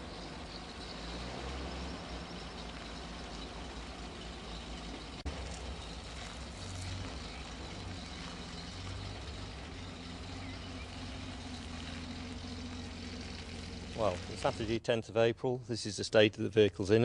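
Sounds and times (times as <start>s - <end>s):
petrol engine humming: 0.0s - 14.8s.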